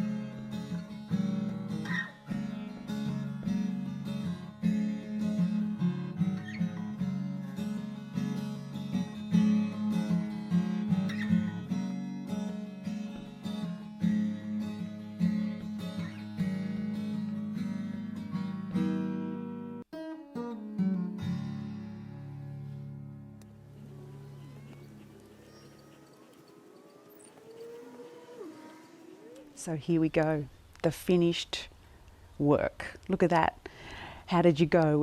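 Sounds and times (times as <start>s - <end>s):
acoustic guitar music: 0.0s - 29.8s.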